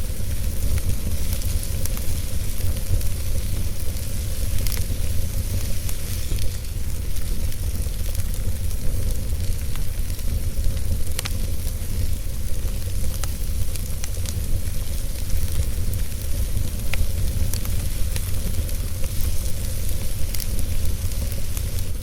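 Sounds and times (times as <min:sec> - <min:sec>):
fire crackling: 0:00.0 - 0:22.0
fire rumbling and hissing: 0:00.0 - 0:22.0.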